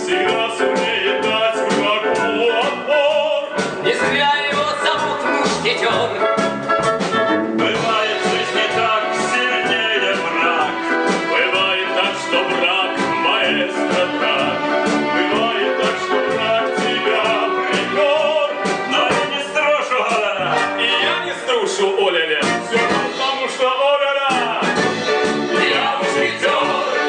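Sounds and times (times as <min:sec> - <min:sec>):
orchestra playing upbeat music: 0:00.0 - 0:27.0.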